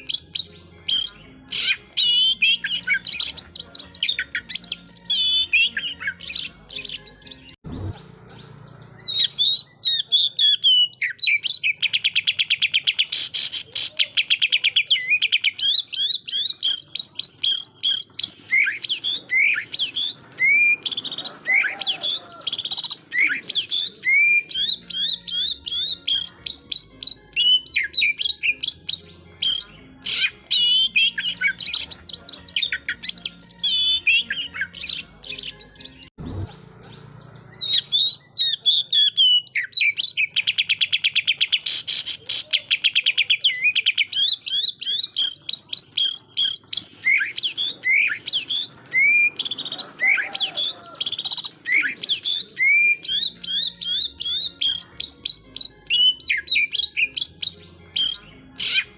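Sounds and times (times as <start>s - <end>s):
bird singing whistles and chirps: 0.0s - 58.9s.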